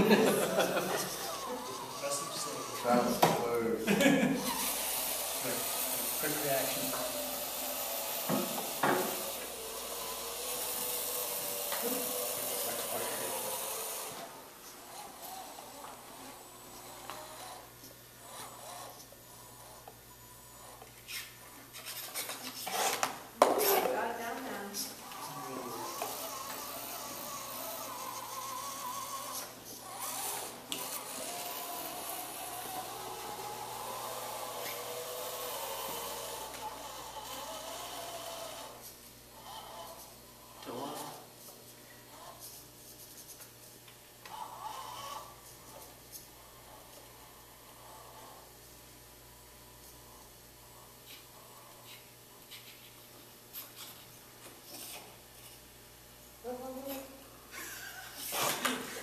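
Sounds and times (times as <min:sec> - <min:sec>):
small electric motor whirring: 0:00.0 - 0:43.5, 0:44.2 - 0:48.6.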